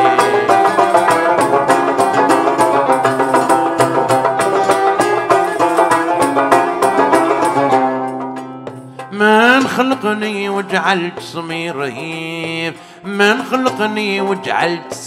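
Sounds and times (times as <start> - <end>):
oud and plucked strings playing: 0.0 - 15.0
steady beat: 0.0 - 15.0.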